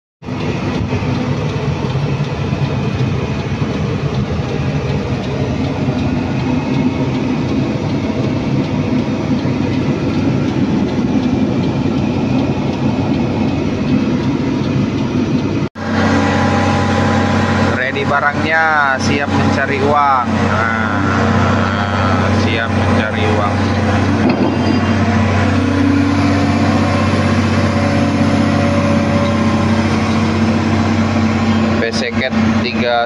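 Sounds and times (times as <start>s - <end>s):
excavator diesel engine running: 0.2s - 33.0s.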